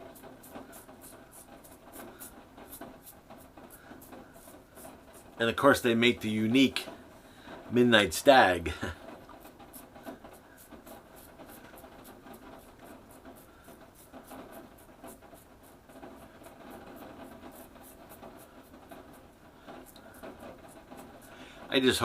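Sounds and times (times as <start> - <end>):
razor scraping stubble: 0.0 - 6.8, 9.2 - 22.0.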